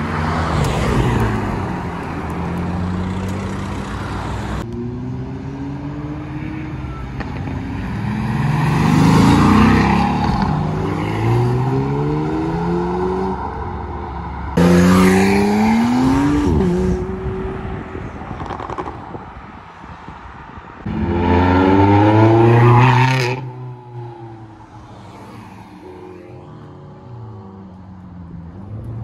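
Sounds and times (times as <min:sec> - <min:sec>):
sports cars accelerating: 0:00.0 - 0:19.0, 0:20.8 - 0:29.0.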